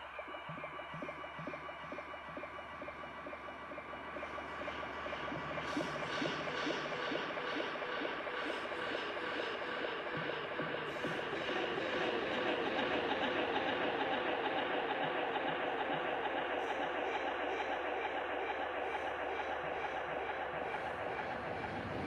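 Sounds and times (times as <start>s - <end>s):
dense electronic noise texture: 0.0s - 22.0s.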